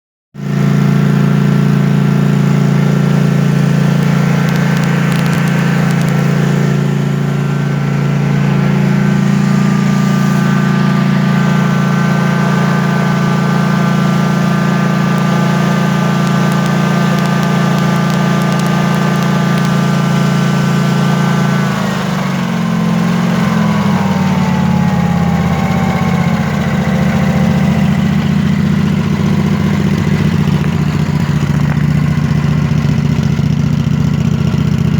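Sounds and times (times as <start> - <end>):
engine popping at rough idle: 0.4 - 34.9
mower engine running: 0.4 - 34.9.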